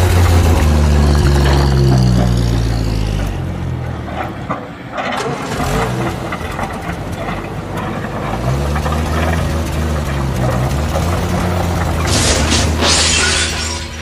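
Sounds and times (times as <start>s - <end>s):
heavy vehicle engine drone: 0.0s - 14.0s.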